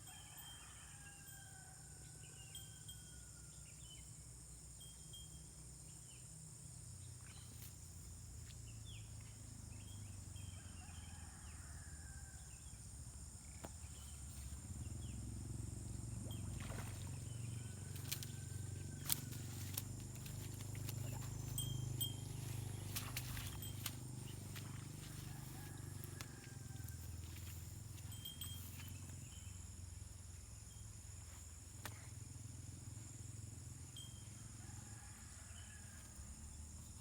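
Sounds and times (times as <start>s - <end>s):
high insect drone: 0.1s - 37.0s.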